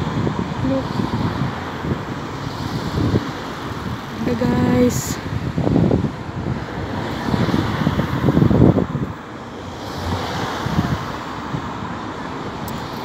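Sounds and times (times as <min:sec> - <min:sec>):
road traffic noise: 0:00.0 - 0:13.0
wind buffeting microphone: 0:00.0 - 0:13.0.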